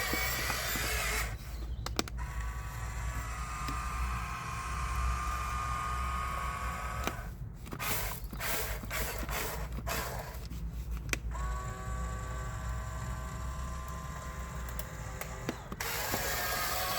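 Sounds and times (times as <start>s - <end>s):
electric motors whining: 0.0s - 10.5s, 11.3s - 16.9s.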